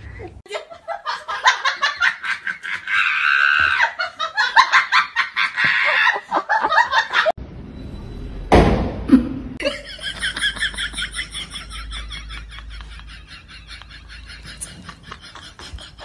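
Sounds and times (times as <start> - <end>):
laughter in bursts: 0.1 - 7.4, 9.6 - 16.0.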